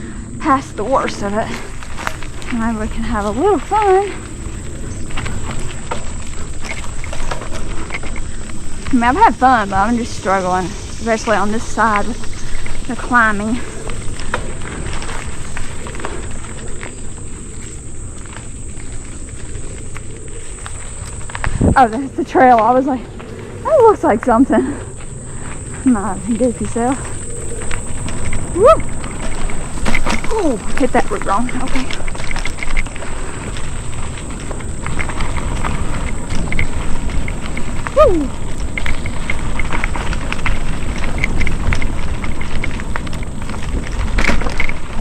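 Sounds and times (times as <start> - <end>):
bike clicks and rattles: 0.0 - 45.0
bike tyres rumbling on dirt: 0.0 - 45.0
high insect drone: 0.0 - 45.0.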